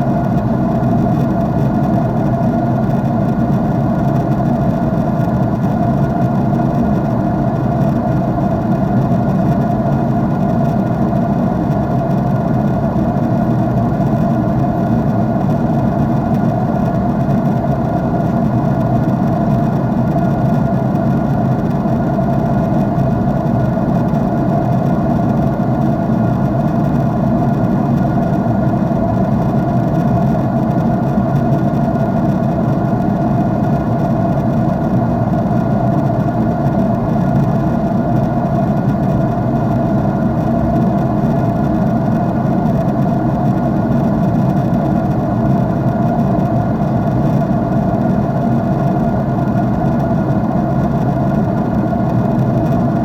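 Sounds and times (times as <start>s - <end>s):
faint steady hum: 0.0s - 53.0s
jet engine drone in cabin: 0.0s - 53.0s.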